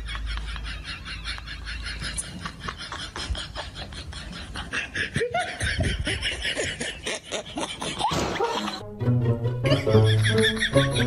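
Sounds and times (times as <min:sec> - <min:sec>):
people laughing: 0:00.0 - 0:08.8, 0:09.6 - 0:11.0.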